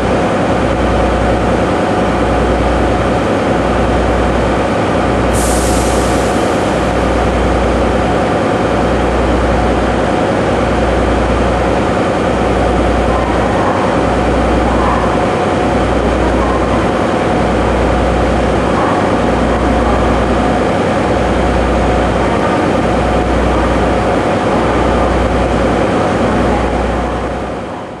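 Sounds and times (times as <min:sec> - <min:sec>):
diesel generator engine droning: 0:00.0 - 0:28.0.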